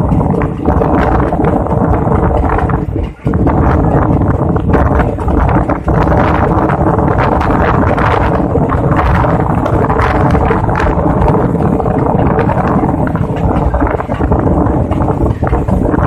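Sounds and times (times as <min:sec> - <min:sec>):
running gear rattling and knocking: 0:00.0 - 0:16.0
train coach rumbling: 0:00.0 - 0:16.0
wind rushing over microphone: 0:00.0 - 0:16.0.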